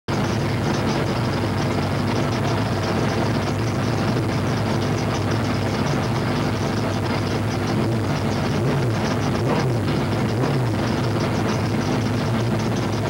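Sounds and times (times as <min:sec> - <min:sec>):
truck engine idling: 0:00.1 - 0:13.0.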